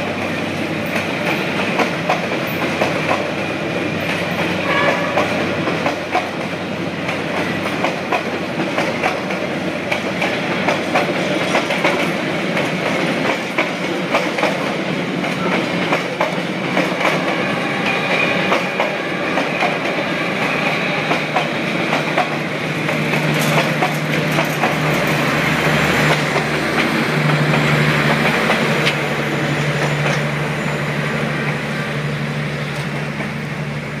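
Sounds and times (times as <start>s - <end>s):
train wheels clacking over rails: 0.0s - 34.0s.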